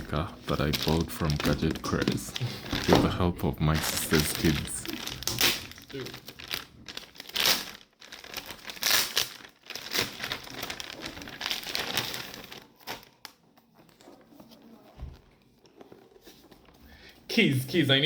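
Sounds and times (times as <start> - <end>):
plastic packaging crinkling: 0.0 - 16.8.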